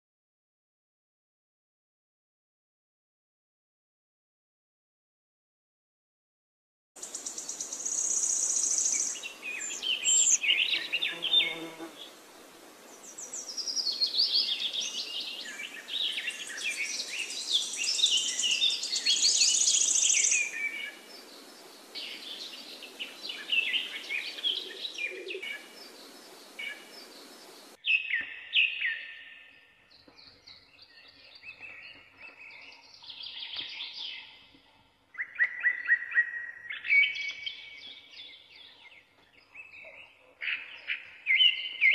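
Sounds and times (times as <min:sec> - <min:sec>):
birds chirping and singing: 0:07.0 - 0:12.1, 0:12.9 - 0:41.9.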